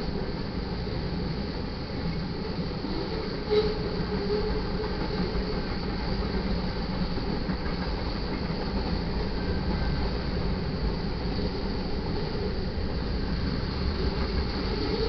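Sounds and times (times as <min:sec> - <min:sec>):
freight cars rumbling on rail: 0:00.0 - 0:15.0.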